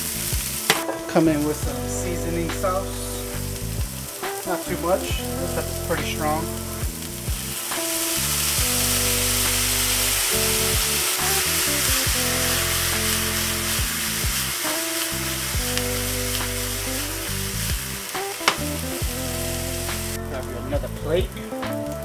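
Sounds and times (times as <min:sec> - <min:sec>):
background music: 0:00.0 - 0:22.0
meat sizzling in a skillet: 0:00.0 - 0:22.0.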